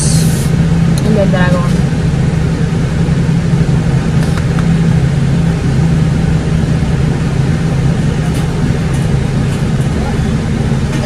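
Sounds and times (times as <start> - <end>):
car engine hum inside cabin: 0.0 - 11.0.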